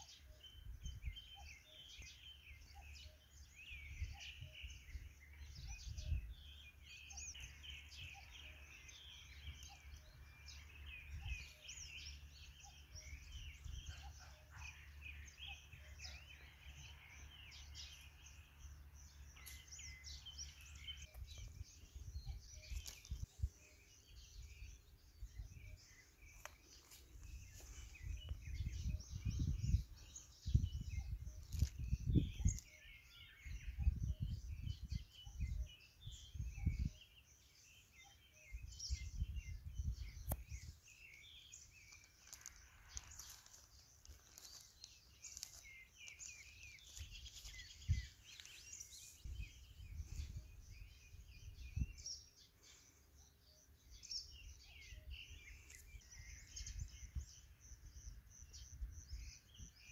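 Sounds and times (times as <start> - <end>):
wild birds chirping and trilling: 0.0 - 59.9.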